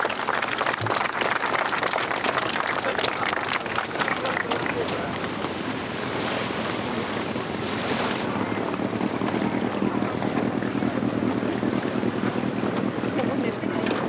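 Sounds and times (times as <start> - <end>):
water washing past boat: 0.0 - 14.0
wind buffeting microphone: 2.2 - 14.0.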